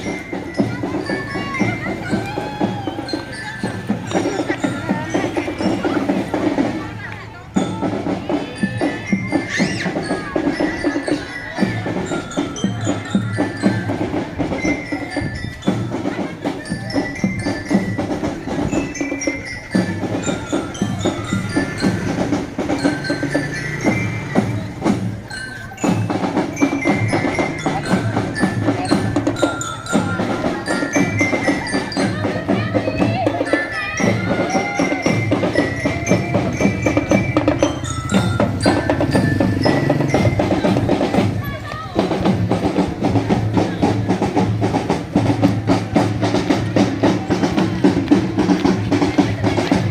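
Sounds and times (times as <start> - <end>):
bell lyre melody: 0.0 - 6.7, 7.6 - 43.9
snare and bass drums: 0.0 - 49.9.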